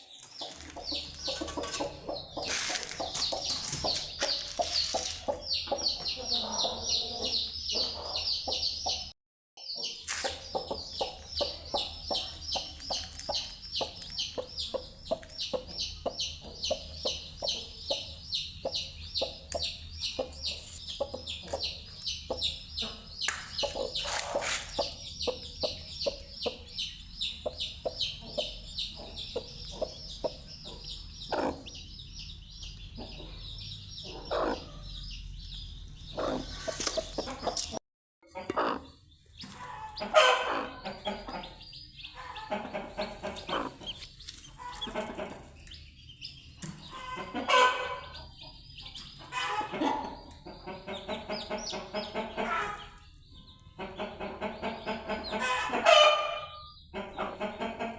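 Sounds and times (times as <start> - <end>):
chicks peeping: 0.0 - 57.9
hen clucking: 0.2 - 9.1, 9.7 - 35.0, 36.0 - 57.9.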